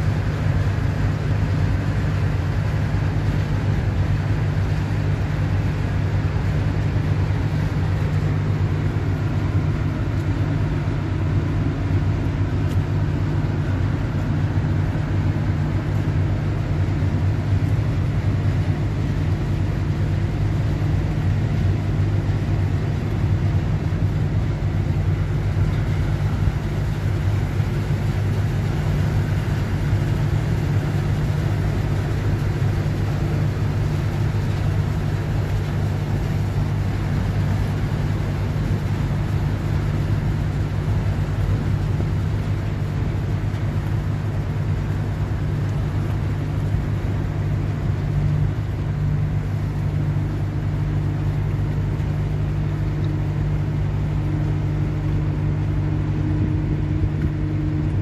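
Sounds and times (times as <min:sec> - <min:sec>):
boat engines humming: 0:00.0 - 0:58.0.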